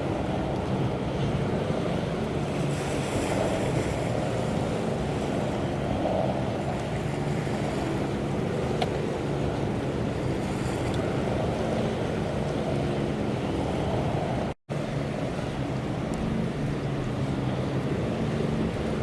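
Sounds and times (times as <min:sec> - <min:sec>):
low ship machinery drone: 0:00.0 - 0:19.0
water noise: 0:00.0 - 0:19.0
wind buffeting microphone: 0:00.0 - 0:19.0.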